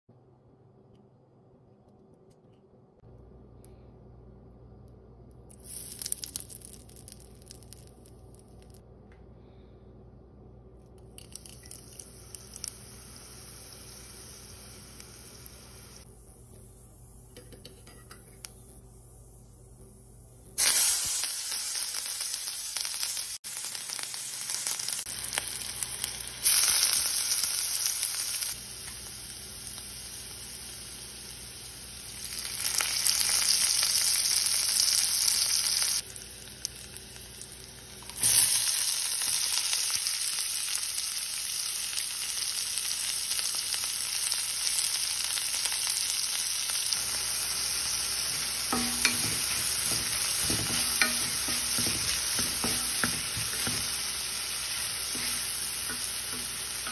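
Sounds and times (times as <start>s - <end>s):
hot oil sizzling: 5.5s - 8.8s, 11.0s - 56.9s.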